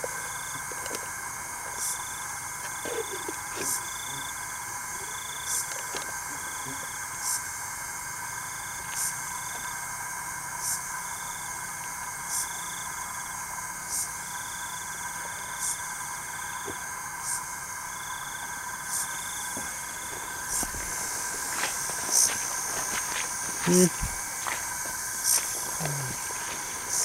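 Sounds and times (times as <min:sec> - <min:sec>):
high insect chirp: 0:00.0 - 0:27.0
insects trilling: 0:00.0 - 0:27.0
short insect trills: 0:00.0 - 0:27.0.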